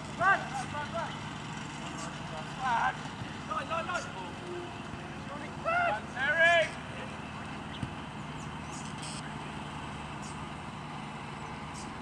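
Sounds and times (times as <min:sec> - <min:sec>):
distant engine running: 0:00.0 - 0:12.0.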